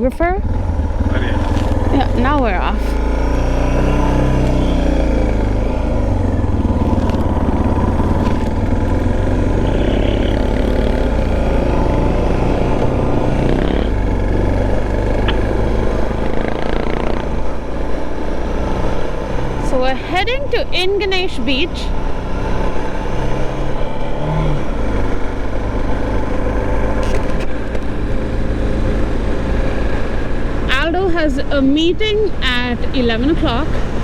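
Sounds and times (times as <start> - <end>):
motorcycle engine accelerating: 0.0 - 34.0
road and wind noise: 0.0 - 34.0.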